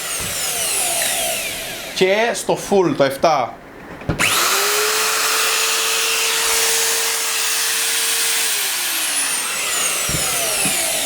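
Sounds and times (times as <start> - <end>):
wood router whining: 0.0 - 2.3, 4.2 - 11.0.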